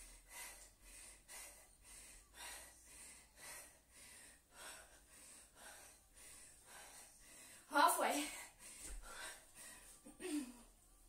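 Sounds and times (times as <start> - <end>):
woman breathing hard: 0.0 - 10.7.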